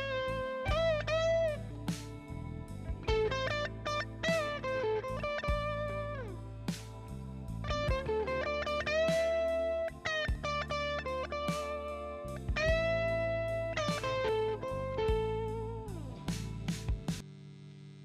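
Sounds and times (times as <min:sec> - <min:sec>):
electric guitar blues lead: 0:00.0 - 0:17.2
low bass notes: 0:00.0 - 0:17.2.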